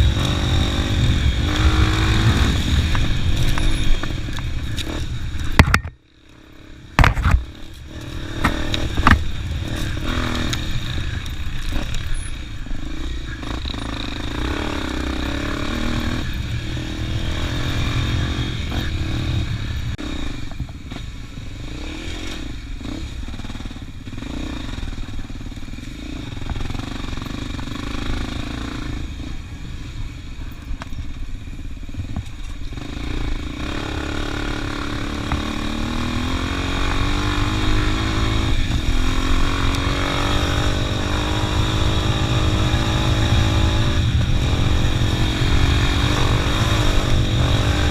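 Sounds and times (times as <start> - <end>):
motorcycle engine running: 0.0 - 47.9
wind and road rumble: 0.0 - 47.9.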